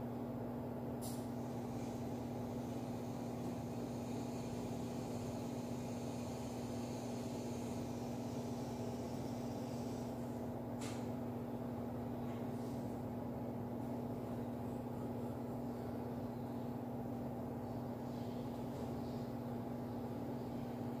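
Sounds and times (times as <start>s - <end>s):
low machine hum with hiss: 0.0s - 21.0s.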